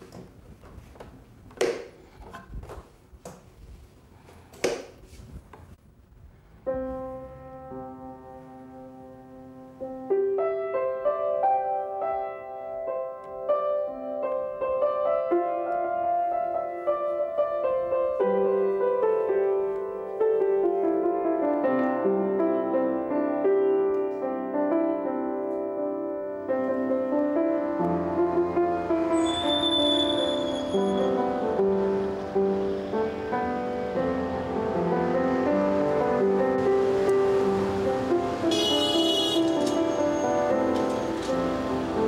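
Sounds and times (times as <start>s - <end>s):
upright piano playing: 6.6s - 42.0s.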